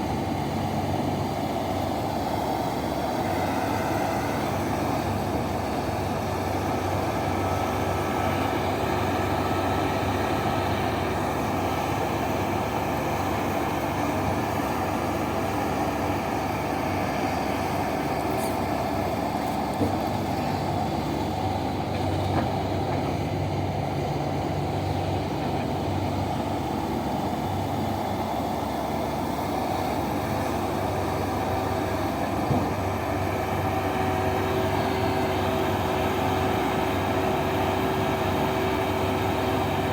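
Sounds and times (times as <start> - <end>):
heavy diesel machinery humming: 0.0 - 39.9.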